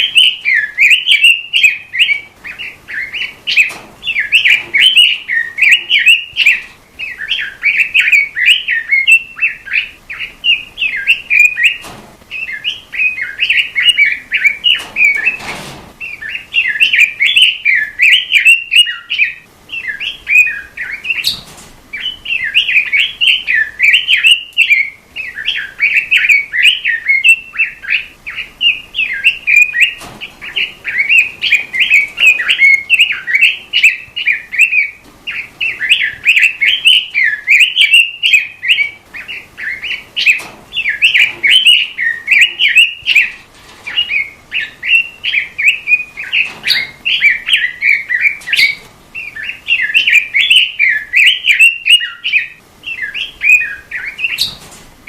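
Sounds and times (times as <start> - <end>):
bird warbling chatter: 0.0 - 54.7.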